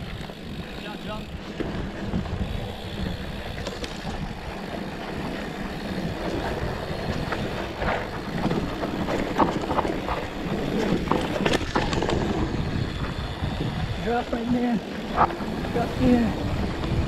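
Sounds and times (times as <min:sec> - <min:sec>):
bike clicks and rattles: 0:00.0 - 0:17.0
wind rush on microphone: 0:00.0 - 0:17.0.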